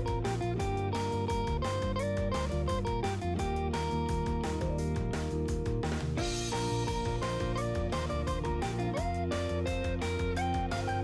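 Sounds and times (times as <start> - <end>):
guitar-led background music: 0.0 - 11.0.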